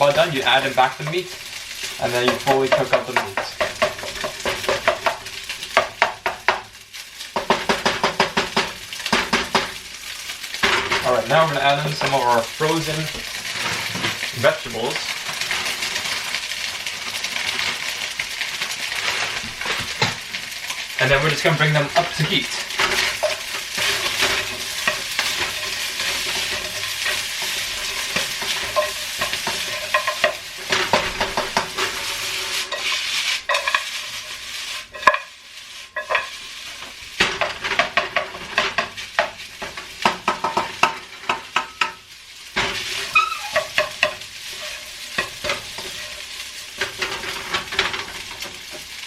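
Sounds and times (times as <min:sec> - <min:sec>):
utensil scraping a pan: 0:00.0 - 0:06.4, 0:07.4 - 0:49.0
rice sizzling in a hot pan: 0:00.0 - 0:49.0.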